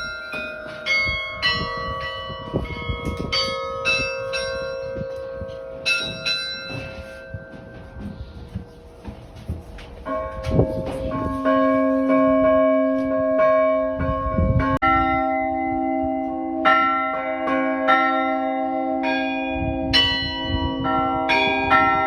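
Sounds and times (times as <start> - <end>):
church bells ringing: 0.0 - 22.0
deep bell tolling: 0.0 - 22.0.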